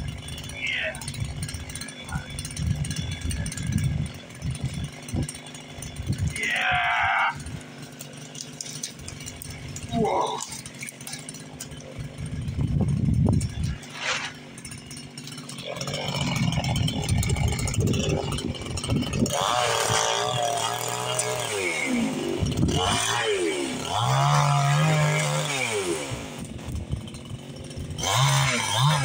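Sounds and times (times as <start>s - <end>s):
chainsaw running and revving: 0.0s - 29.0s.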